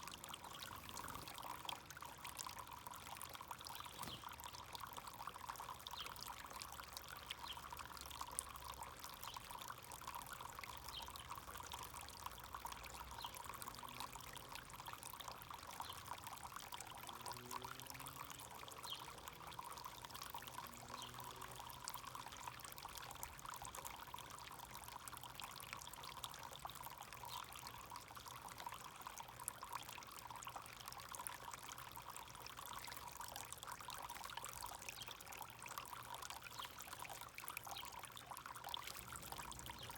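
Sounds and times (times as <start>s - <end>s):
fountain water trickling: 0.0s - 39.9s.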